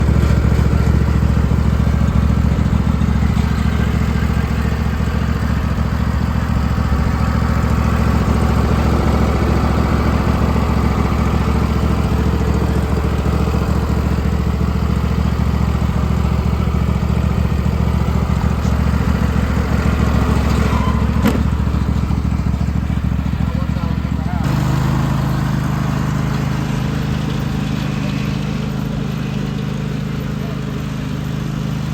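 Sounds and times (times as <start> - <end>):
lawn tractor engine running: 0.0 - 31.9.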